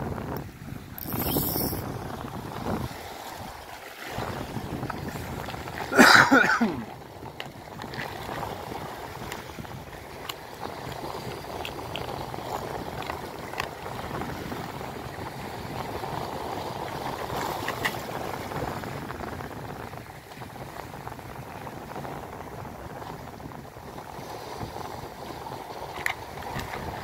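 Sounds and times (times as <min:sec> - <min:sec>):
waves washing against rocky shore: 0:00.1 - 0:27.0.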